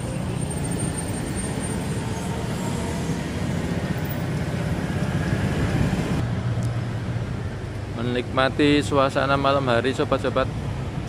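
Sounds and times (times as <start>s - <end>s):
scooter and car engines: 0.0s - 11.0s.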